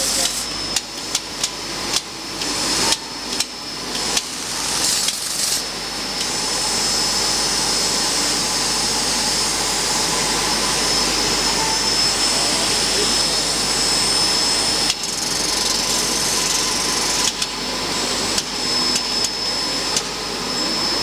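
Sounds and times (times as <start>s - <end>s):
machine whirring hiss: 0.0s - 21.0s.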